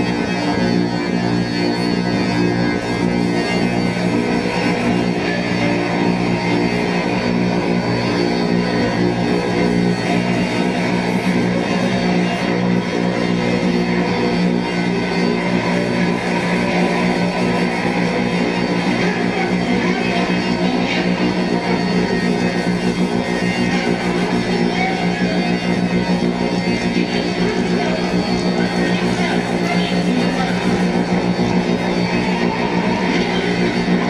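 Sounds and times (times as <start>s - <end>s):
drone music: 0.0s - 34.0s.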